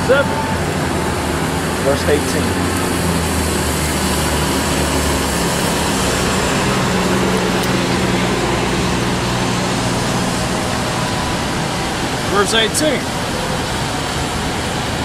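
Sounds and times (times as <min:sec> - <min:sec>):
city street traffic: 0:00.0 - 0:15.0
vehicle engine humming: 0:00.0 - 0:15.0.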